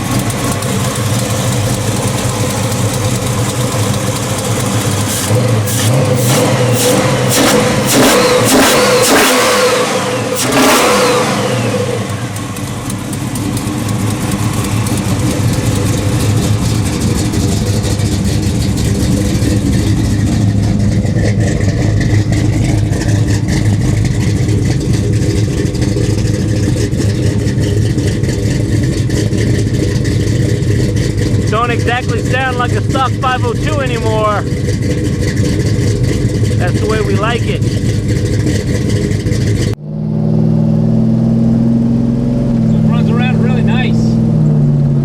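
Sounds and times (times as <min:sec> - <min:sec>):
car engine revving: 0:00.0 - 0:45.0
engine running steadily: 0:00.0 - 0:45.0.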